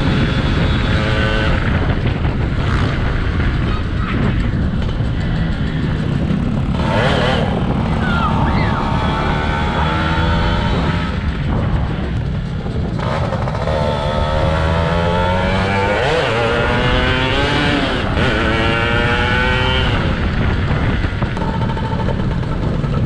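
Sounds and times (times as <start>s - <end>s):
two-stroke motorcycle engine revving: 0.0s - 23.0s
wind on microphone: 0.0s - 23.0s.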